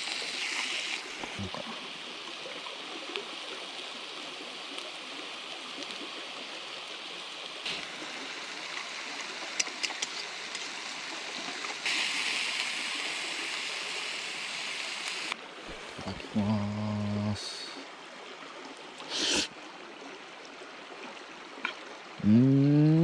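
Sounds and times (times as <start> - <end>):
stream rushing water: 0.0 - 22.2.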